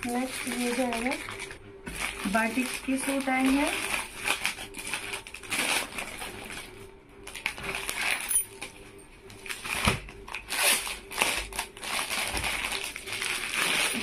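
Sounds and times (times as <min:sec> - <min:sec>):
wrapping rustling and crinkling: 0:00.0 - 0:14.0.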